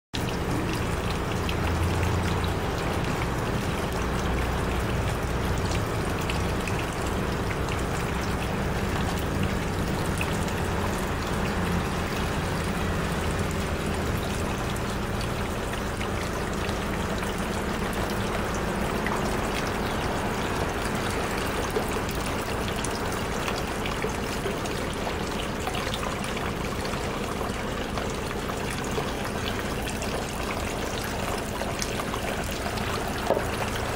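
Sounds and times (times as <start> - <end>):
fountain water trickling: 0.2 - 33.9.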